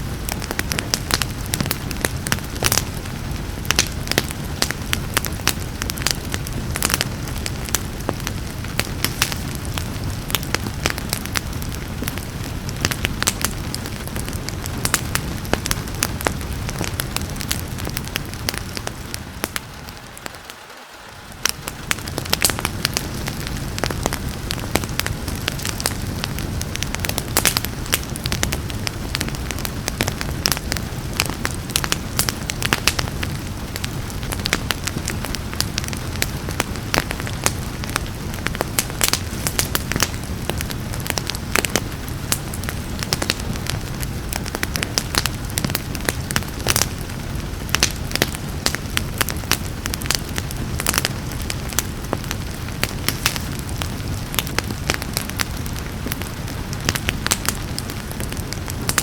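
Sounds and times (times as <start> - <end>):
rain hissing: 0.0 - 59.0
wood fire crackling and popping: 0.0 - 59.0.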